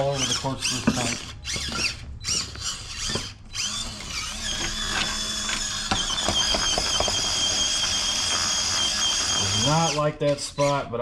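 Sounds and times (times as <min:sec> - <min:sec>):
small electric motor whining: 0:00.0 - 0:10.9.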